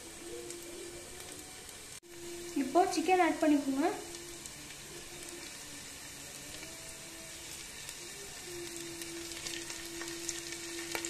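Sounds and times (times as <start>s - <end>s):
onions sizzling in butter: 0.0s - 11.0s.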